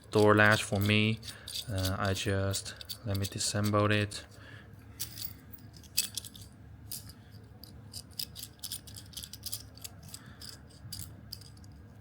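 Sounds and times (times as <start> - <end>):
metal latch parts clicking: 0.0 - 4.2, 5.0 - 12.0.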